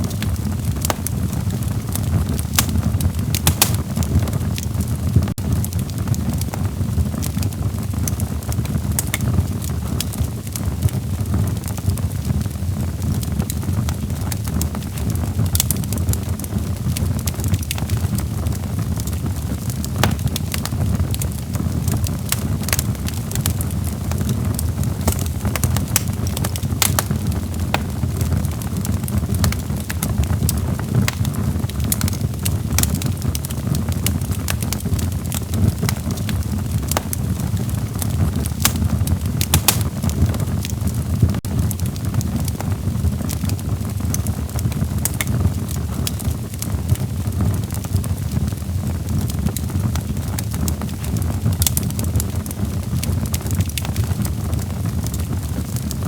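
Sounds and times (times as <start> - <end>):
fire crackles and pops: 0.0 - 56.0
low rumble of flames: 0.0 - 56.0.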